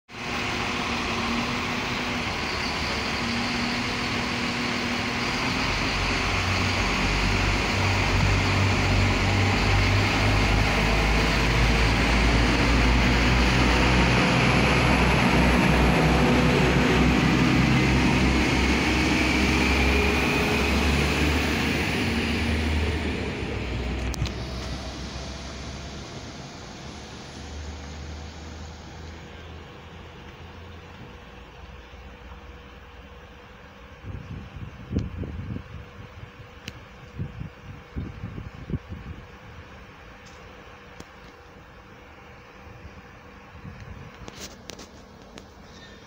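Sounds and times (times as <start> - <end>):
rising whine: 0.1 - 45.6
train diesel engines running: 0.1 - 46.0
wheel and rail noise: 0.1 - 46.0.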